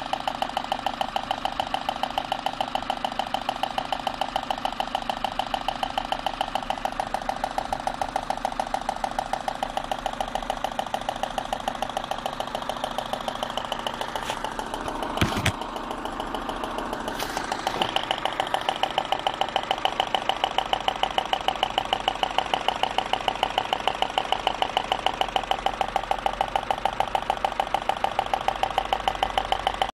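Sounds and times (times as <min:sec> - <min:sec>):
car engine idling with knocking: 0:00.0 - 0:30.0.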